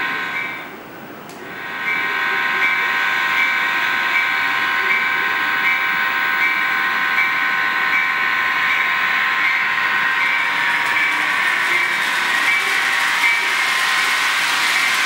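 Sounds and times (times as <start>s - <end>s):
model train motor whine: 1.6s - 15.0s
model train rattling on track: 1.8s - 15.0s.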